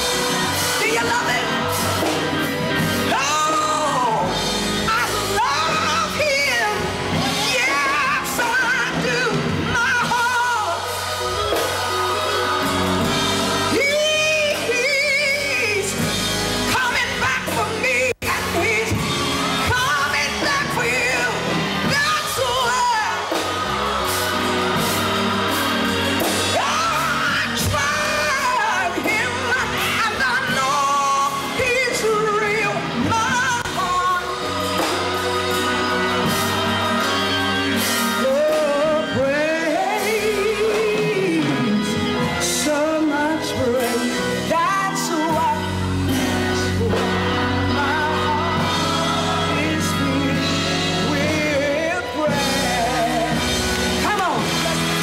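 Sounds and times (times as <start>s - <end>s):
instrumental backing with bass: 0.0s - 55.0s
woman singing gospel song: 0.0s - 55.0s.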